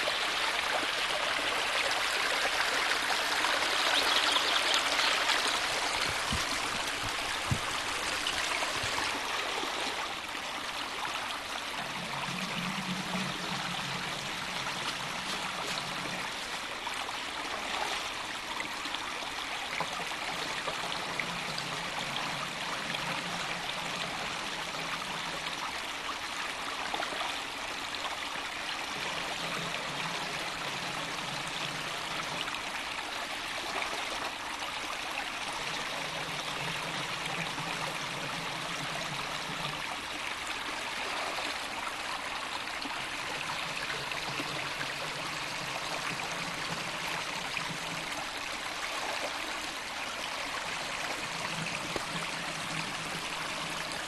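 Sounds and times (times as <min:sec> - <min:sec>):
stream running over stones: 0:00.0 - 0:54.0.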